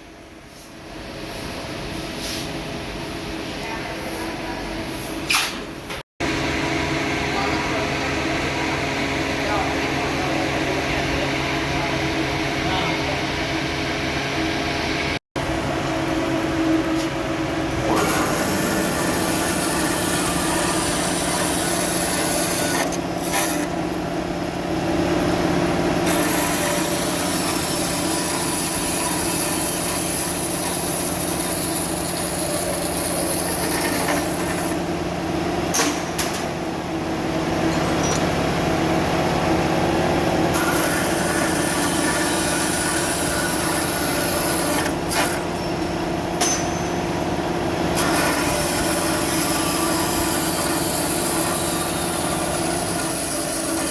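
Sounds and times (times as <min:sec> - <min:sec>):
workshop machinery running: 0:00.0 - 0:53.9.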